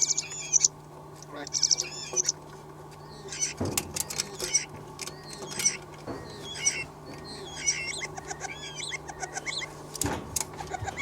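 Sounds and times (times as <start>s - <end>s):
starlings calling: 0.0s - 0.8s, 1.4s - 11.0s.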